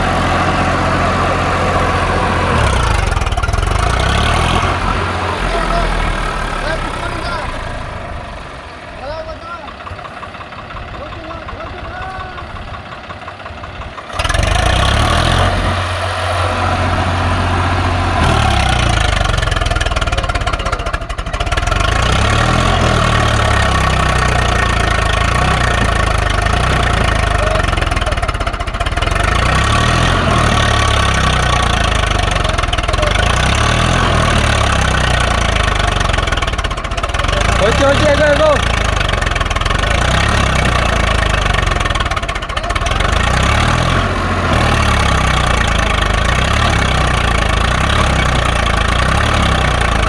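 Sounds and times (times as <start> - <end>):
tractor diesel engine under load: 0.0 - 50.0.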